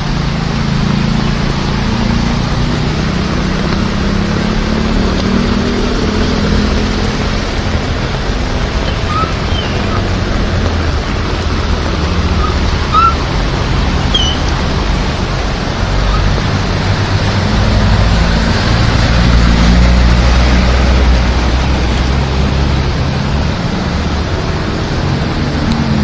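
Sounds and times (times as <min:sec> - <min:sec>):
heavy rain falling: 0:00.0 - 0:26.0
vehicle engine running: 0:00.0 - 0:26.0.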